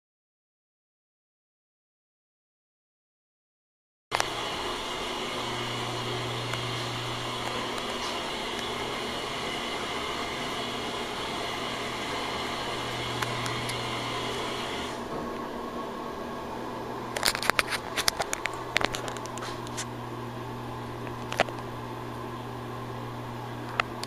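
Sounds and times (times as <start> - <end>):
exhaust fan humming: 4.1 - 24.0.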